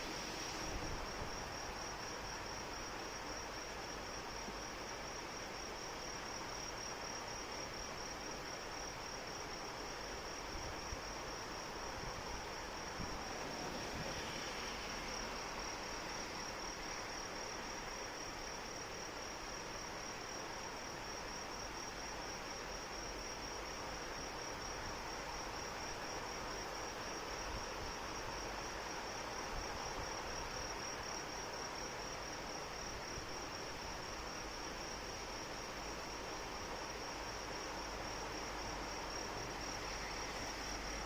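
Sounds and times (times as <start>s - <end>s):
crickets trilling: 0.0s - 41.0s
rain hiss: 0.0s - 41.0s.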